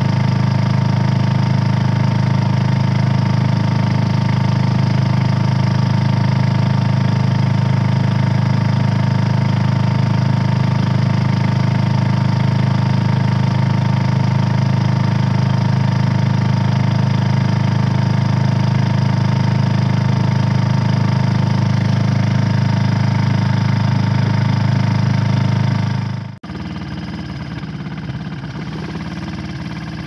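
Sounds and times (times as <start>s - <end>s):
boat engine humming: 0.0s - 30.0s
quieter engine idling: 0.0s - 30.0s.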